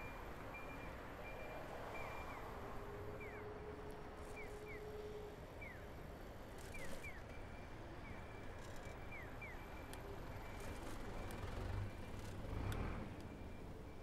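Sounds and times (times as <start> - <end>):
traffic and road hum: 0.0 - 14.0.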